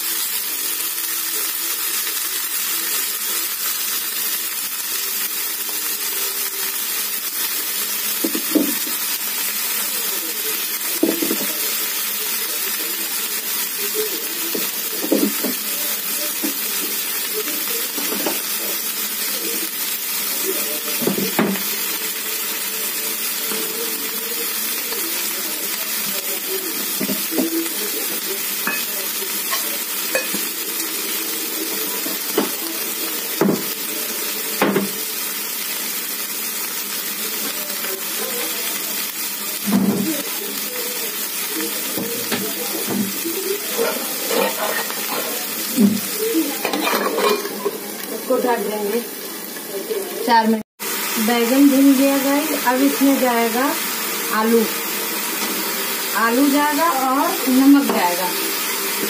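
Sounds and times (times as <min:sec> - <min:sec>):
vegetables sizzling in a pan: 0:00.0 - 0:59.0.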